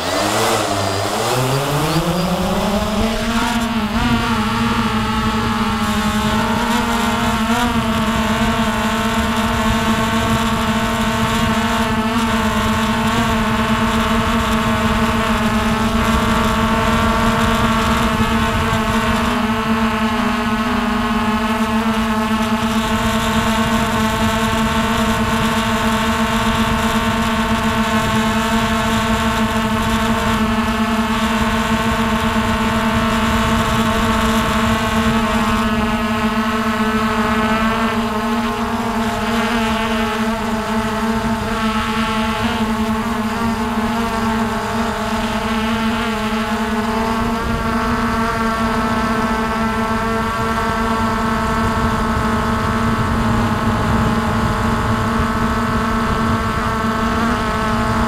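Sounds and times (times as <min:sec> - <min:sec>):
drone propellers humming: 0:00.0 - 0:58.0.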